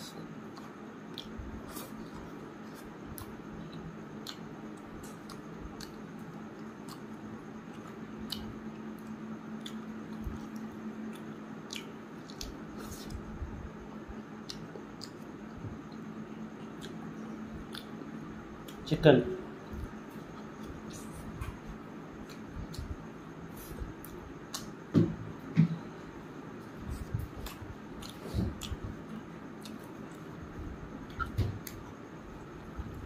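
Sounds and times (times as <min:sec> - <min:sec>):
man chewing wet food: 0:00.0 - 0:18.9, 0:19.6 - 0:33.0
steady low hum: 0:00.0 - 0:33.0.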